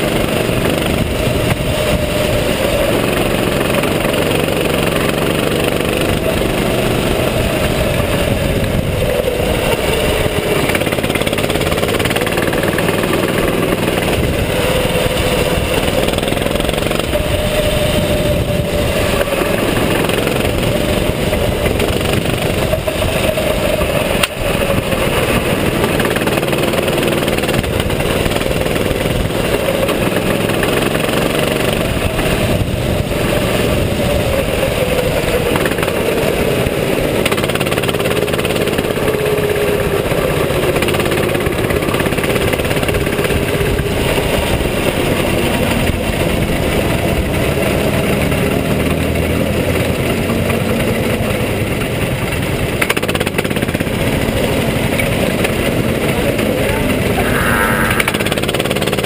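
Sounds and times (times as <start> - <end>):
kart engine running: 0.0 - 59.0
steady rushing noise: 0.0 - 59.0.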